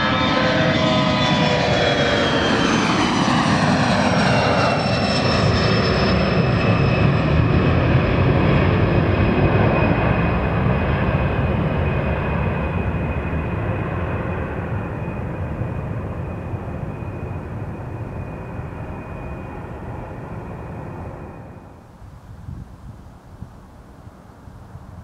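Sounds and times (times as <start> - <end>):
jet engine roar with whine: 0.0 - 25.0.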